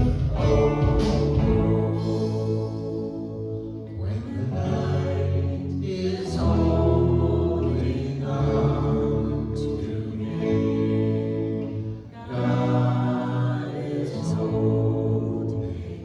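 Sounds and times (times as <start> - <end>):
guitar: 0.0 - 16.0
person singing: 0.0 - 16.0
slow worship music: 0.0 - 16.0.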